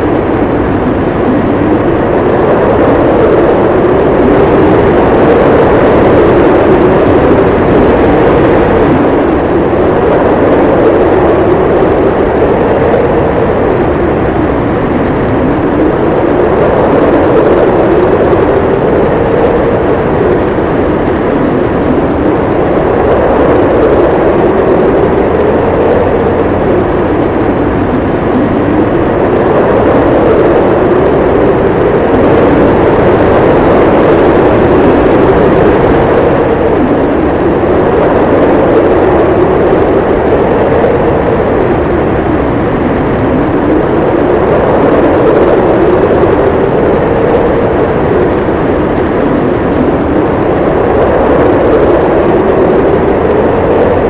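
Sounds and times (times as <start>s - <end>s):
howling storm wind: 0.0s - 54.0s.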